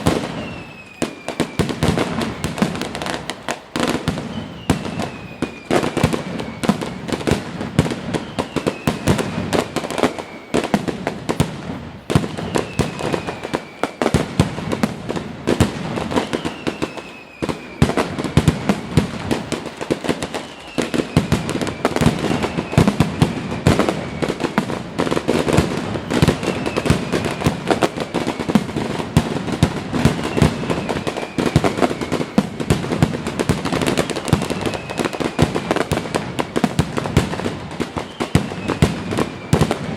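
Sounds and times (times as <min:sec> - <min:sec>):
falling firework whistle: 0:00.0 - 0:39.9
fireworks bangs and crackles: 0:00.0 - 0:39.9.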